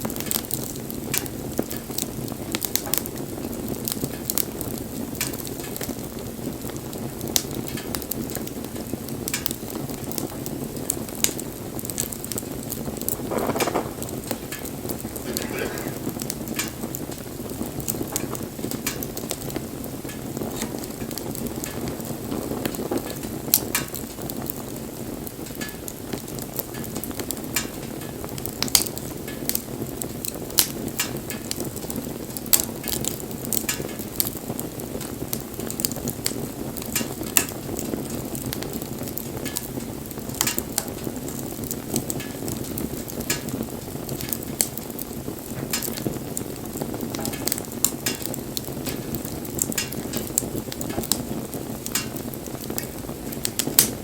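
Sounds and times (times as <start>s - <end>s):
wood crackling and popping: 0.0s - 54.0s
bonfire flame rushing: 0.1s - 54.0s.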